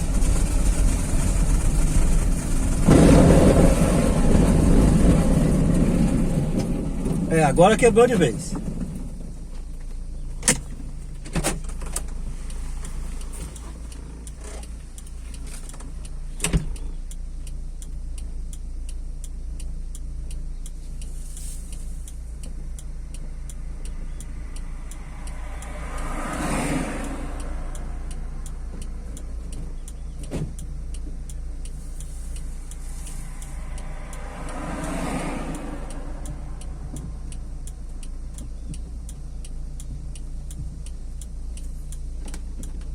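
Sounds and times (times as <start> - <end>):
car road rumble: 0.0 - 42.9.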